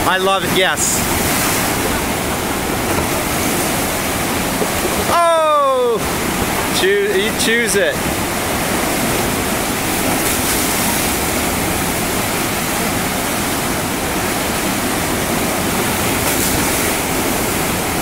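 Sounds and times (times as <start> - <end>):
river whitewater rushing: 0.0 - 18.0.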